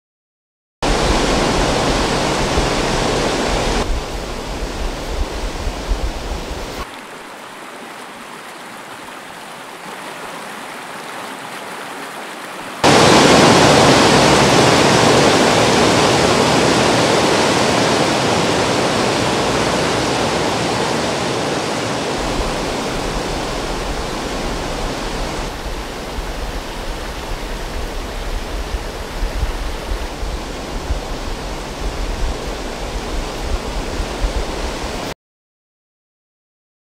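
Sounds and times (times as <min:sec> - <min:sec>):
waterfall and rapids rushing: 0:00.8 - 0:35.2.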